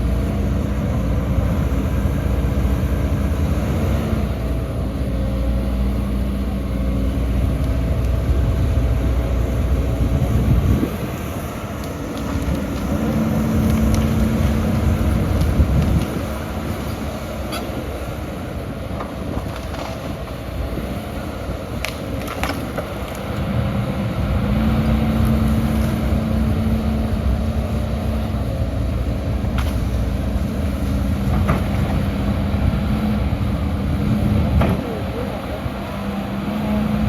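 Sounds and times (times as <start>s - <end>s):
diesel machinery running: 0.0s - 37.0s.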